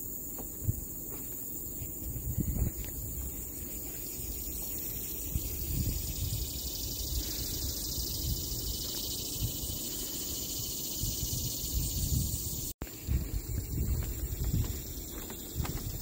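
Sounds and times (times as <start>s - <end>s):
wind buffeting microphone: 1.8s - 16.0s.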